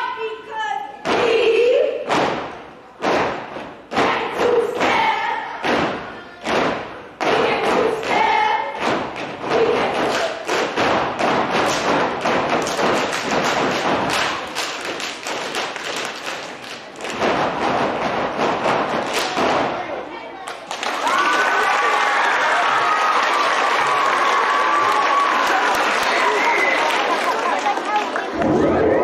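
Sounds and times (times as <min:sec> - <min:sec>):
rhythmic stomping and clapping: 0:02.0 - 0:29.0.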